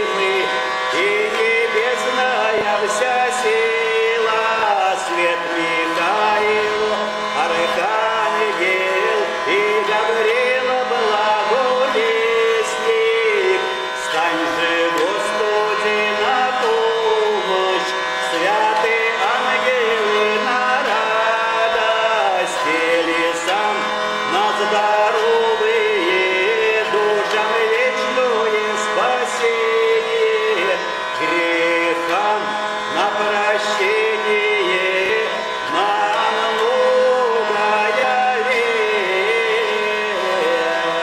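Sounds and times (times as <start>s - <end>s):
hurdy-gurdy drone: 0.0s - 41.0s
man singing: 0.0s - 41.0s.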